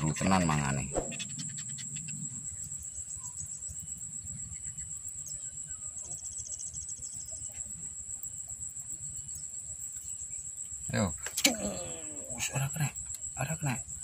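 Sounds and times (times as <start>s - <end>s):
faint bird chirps: 0.0s - 14.0s
high insect drone: 0.0s - 14.0s.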